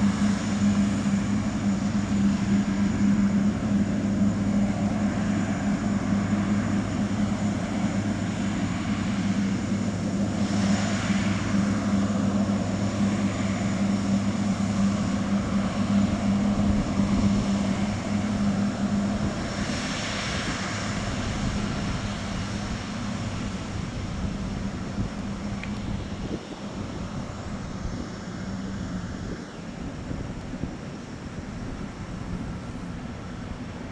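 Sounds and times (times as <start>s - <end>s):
jet engines droning: 0.0s - 33.9s.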